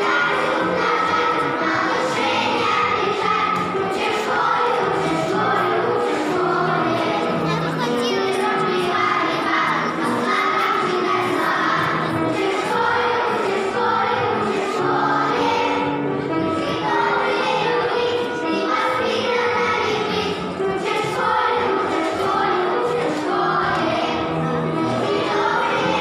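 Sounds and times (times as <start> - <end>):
children singing: 0.0 - 26.0
instrumental accompaniment: 0.0 - 26.0.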